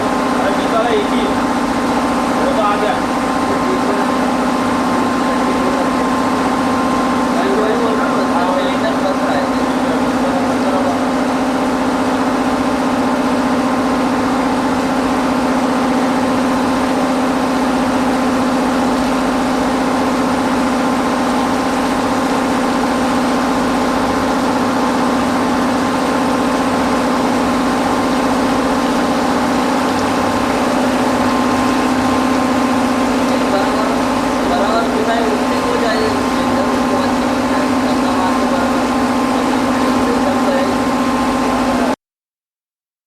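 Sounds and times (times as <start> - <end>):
heavy electric machinery humming: 0.0 - 42.0.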